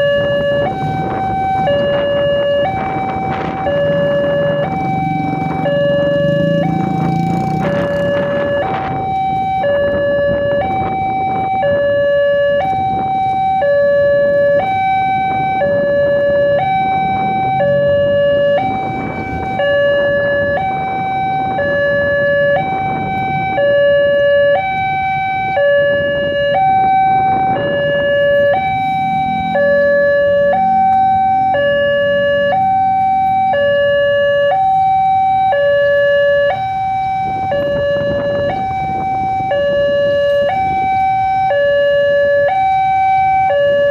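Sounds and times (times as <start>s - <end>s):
road traffic: 0.0s - 43.9s
two-tone level crossing alarm: 0.0s - 43.9s.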